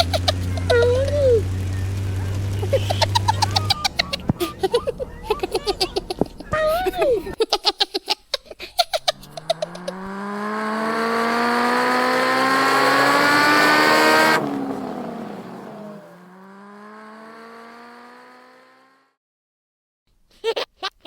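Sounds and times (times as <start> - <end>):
cartoon race car engine revving: 0.0 - 7.4, 8.8 - 19.2.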